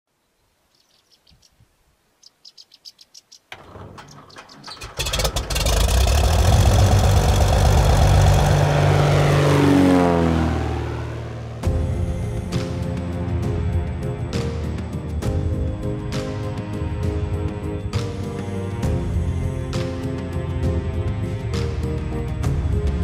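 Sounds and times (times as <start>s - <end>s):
propeller engine starting and running: 3.5s - 23.0s.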